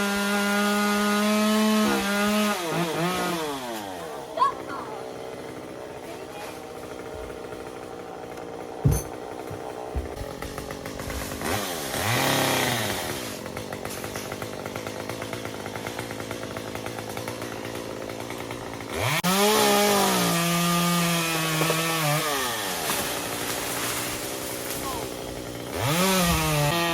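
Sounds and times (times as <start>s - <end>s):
chainsaw idling and revving: 0.0s - 26.9s.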